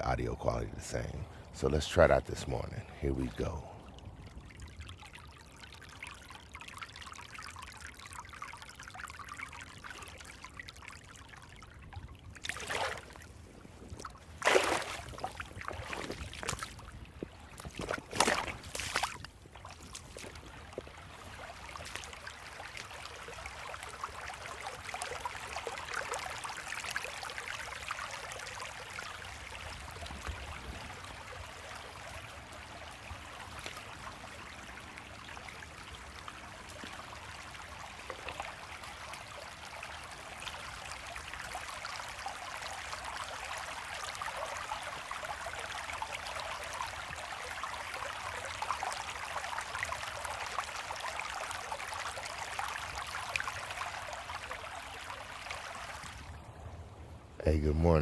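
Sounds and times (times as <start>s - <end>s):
creek water trickling: 0.0s - 58.0s.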